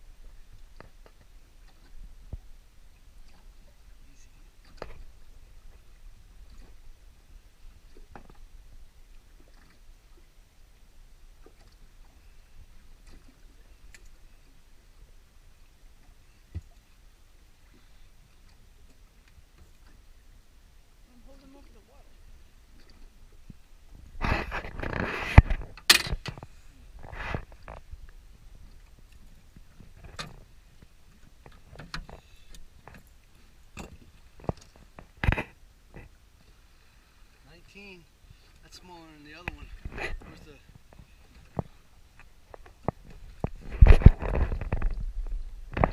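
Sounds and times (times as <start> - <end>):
water lapping against boat hull: 0.0 - 45.9.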